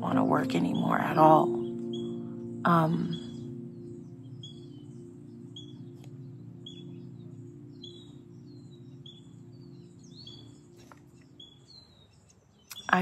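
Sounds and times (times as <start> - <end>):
songbird high chirp: 0.0 - 13.0.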